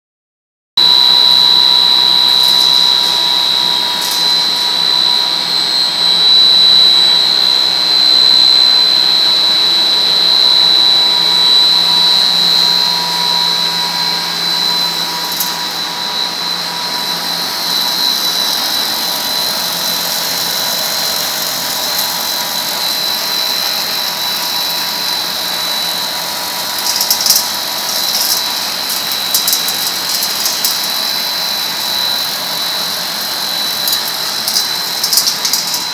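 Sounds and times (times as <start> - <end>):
tortilla machine whirring: 0.8 - 6.4, 11.2 - 35.9
high-pitched machine whine: 0.8 - 35.9.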